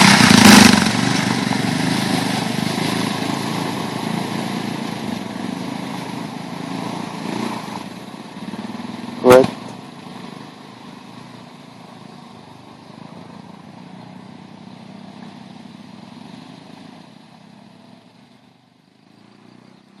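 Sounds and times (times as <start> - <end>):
quad bike engines running: 0.0 - 20.0.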